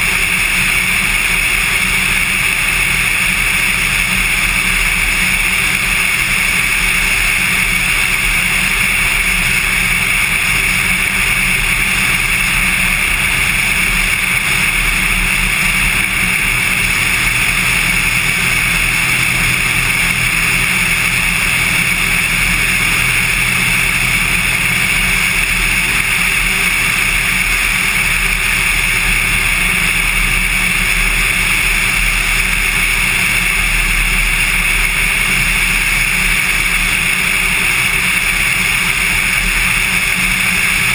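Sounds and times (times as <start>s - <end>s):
propeller aircraft engine droning: 0.0s - 40.9s.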